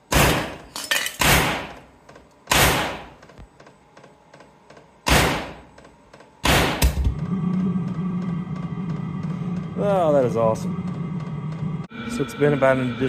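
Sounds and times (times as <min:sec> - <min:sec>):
heater running hum: 0:01.2 - 0:13.0.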